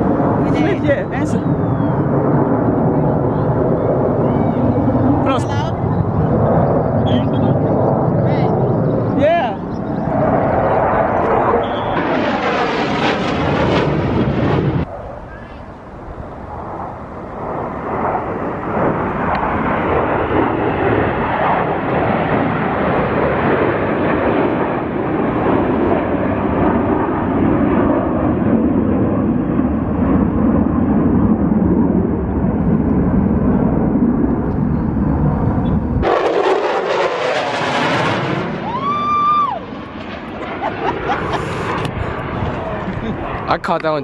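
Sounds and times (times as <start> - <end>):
jet aircraft passing: 0.0 - 44.0.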